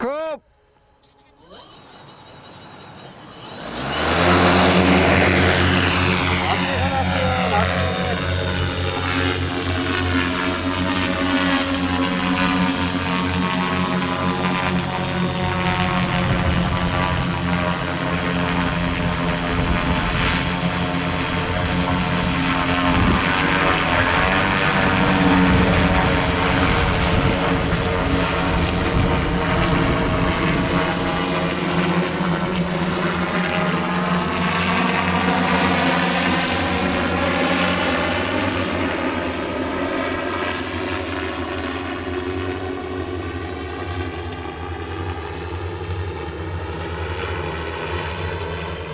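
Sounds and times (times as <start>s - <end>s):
drone propellers humming: 0.7s - 48.9s.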